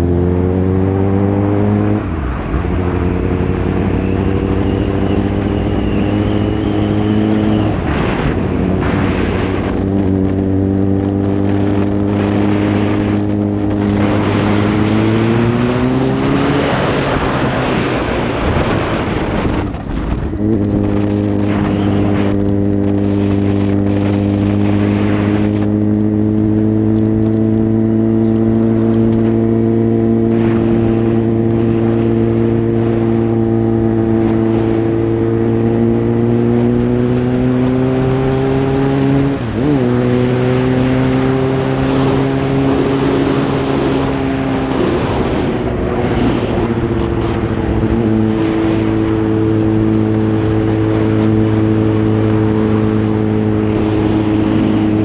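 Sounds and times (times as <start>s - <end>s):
motorcycle engine drone: 0.0s - 55.0s
wind rush: 0.0s - 55.0s.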